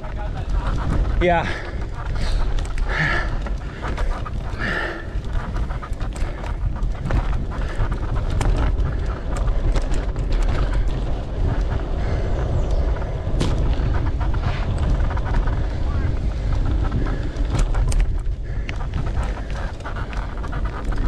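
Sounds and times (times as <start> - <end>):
bike clicks and rattles: 0.0 - 21.0
wind buffeting microphone: 0.0 - 21.0
rider breathing hard: 0.5 - 21.0.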